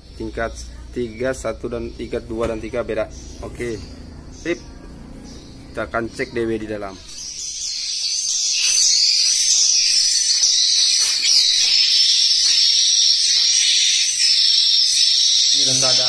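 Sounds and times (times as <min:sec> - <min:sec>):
recorded bird chirps twittering: 0:00.0 - 0:16.0.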